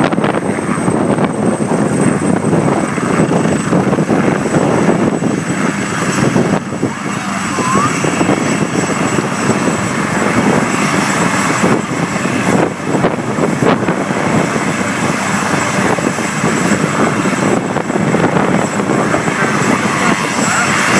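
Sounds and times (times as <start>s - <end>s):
helicopter rotor and turbine: 0.0s - 20.9s.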